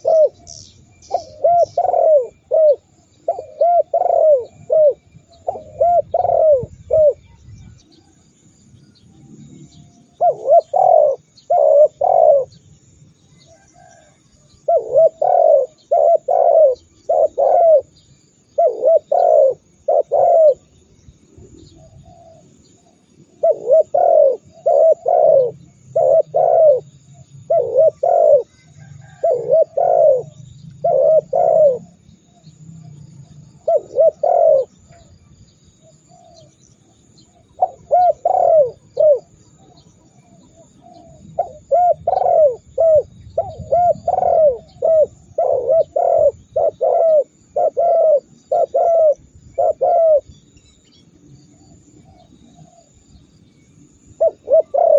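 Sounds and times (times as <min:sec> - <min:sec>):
dove cooing: 0:00.0 - 0:08.1, 0:09.6 - 0:12.7, 0:13.4 - 0:35.1, 0:35.9 - 0:50.6, 0:51.5 - 0:53.0, 0:54.1 - 0:54.9.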